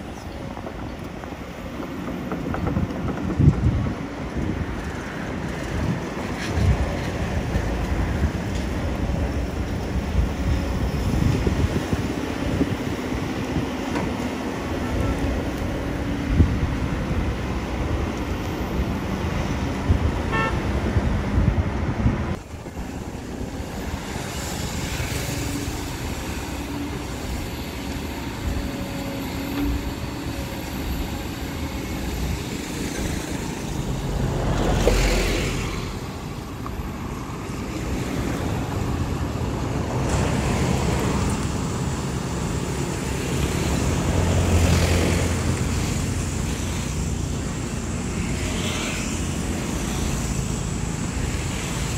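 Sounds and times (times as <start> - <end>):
passing road traffic: 0.0 - 51.9.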